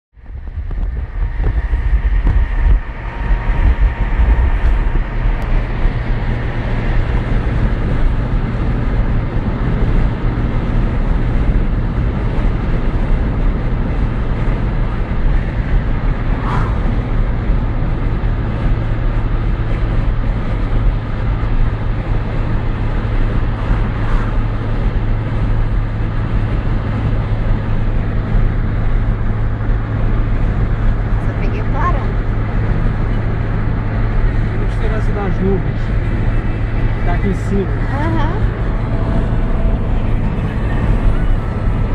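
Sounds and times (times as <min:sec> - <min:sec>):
car engine and tyre noise: 0:00.1 - 0:41.9.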